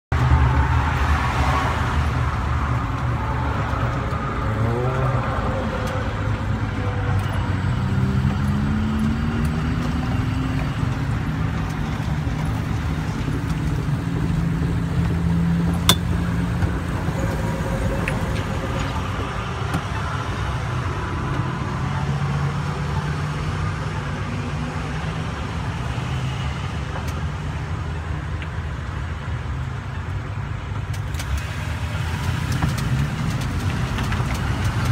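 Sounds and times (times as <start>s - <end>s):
rumble of tyres and wind: 0.1s - 34.9s.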